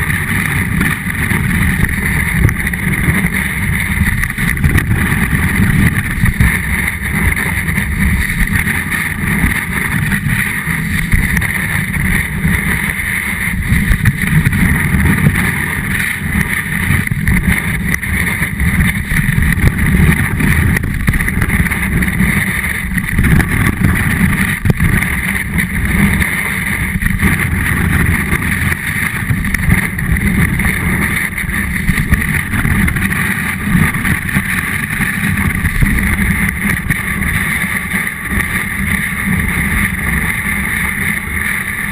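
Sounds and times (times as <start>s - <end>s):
snowboard rumbling on snow: 0.0s - 41.9s
wind on microphone: 0.0s - 41.9s.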